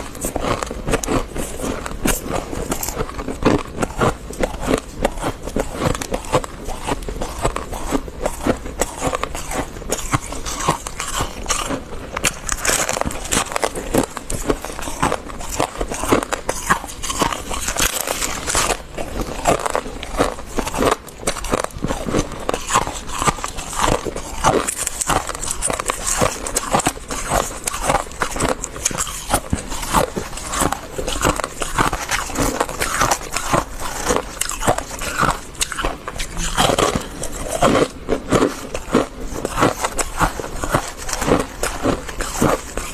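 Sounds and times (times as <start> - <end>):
crisp crunching of chewed frost: 0.0 - 42.9.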